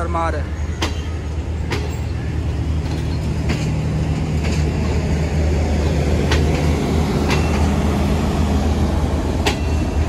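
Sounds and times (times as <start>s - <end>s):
diesel generator droning: 0.0s - 10.0s.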